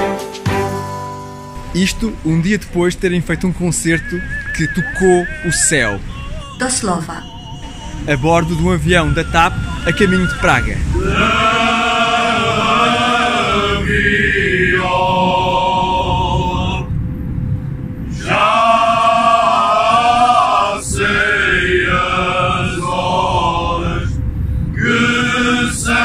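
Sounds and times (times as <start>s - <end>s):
male choir singing: 1.6s - 16.9s, 18.0s - 26.0s.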